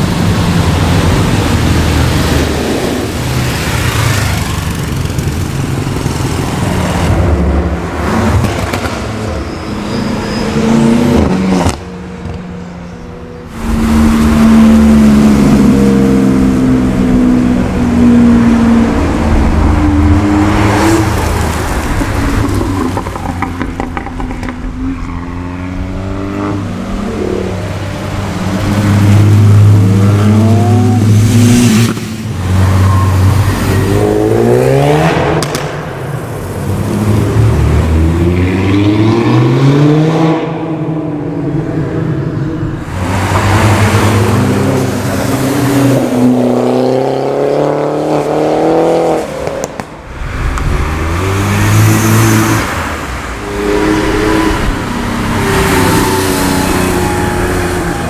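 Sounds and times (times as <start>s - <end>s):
car engines accelerating hard: 0.0s - 58.0s.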